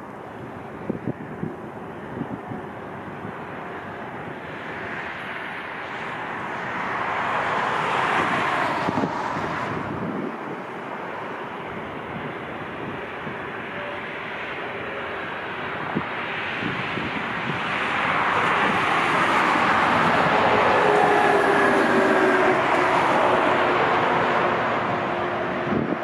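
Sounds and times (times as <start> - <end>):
jet airliner engine noise: 0.0 - 26.0
wind buffeting microphone: 0.0 - 26.0.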